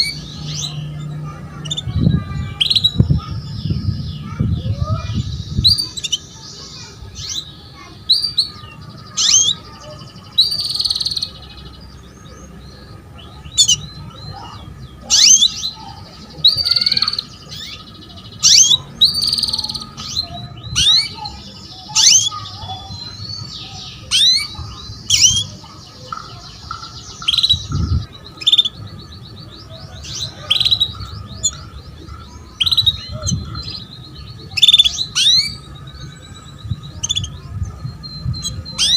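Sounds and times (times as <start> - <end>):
canary chirps and trills: 0.0 - 38.9.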